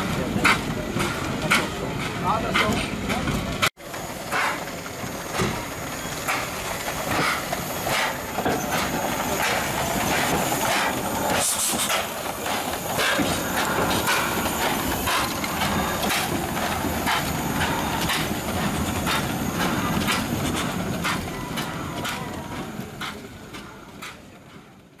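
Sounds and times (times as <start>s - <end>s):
steam hissing: 0.0s - 24.8s
locomotive knocks and clanks: 0.0s - 25.0s.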